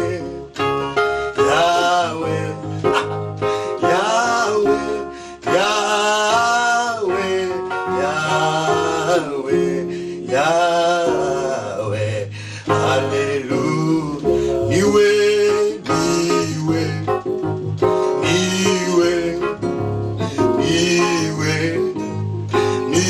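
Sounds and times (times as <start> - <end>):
men singing a worship song: 0.0 - 17.3, 18.0 - 22.0, 22.6 - 23.0
acoustic guitar: 0.0 - 23.0.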